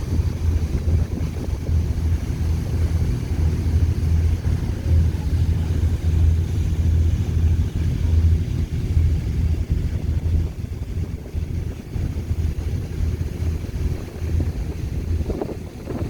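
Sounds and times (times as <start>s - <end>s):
ferry engines droning: 0.0s - 16.0s
water noise: 0.0s - 16.0s
wind: 0.0s - 16.0s.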